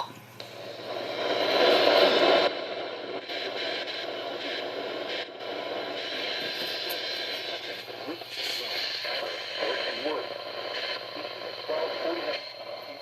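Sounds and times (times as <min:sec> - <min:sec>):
radio static and hiss: 0:00.0 - 0:13.0.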